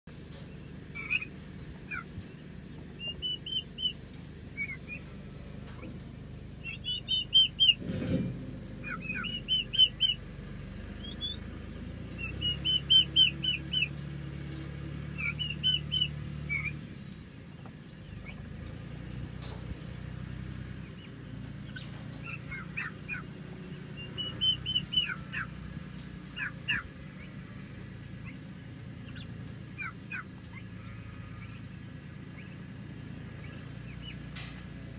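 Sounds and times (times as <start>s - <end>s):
low hum: 0.1s - 34.9s
turkey poults peeping: 0.1s - 34.9s.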